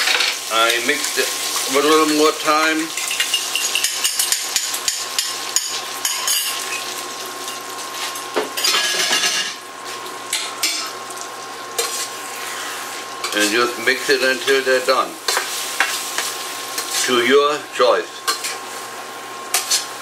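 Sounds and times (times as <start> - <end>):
egg sizzling in frying pan: 0.0 - 17.1.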